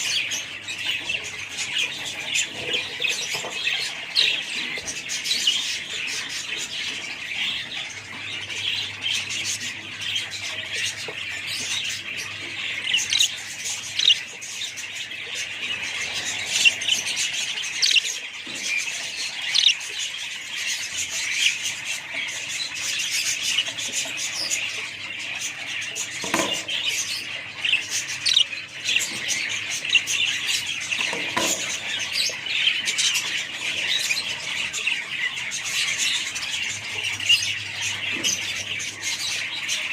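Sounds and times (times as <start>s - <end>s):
small parrots chattering: 0.0s - 39.9s.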